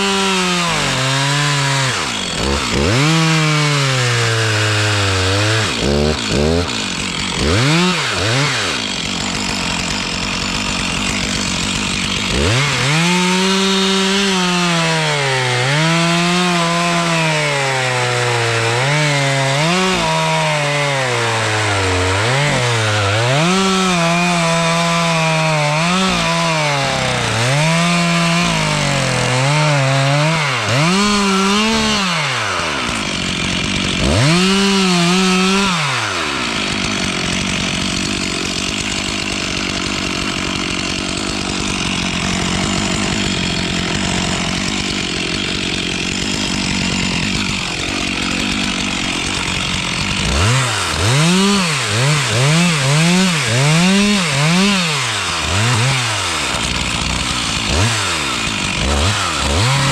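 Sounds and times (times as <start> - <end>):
chainsaw cutting wood: 0.0 - 59.9
chainsaw idling: 0.0 - 59.9.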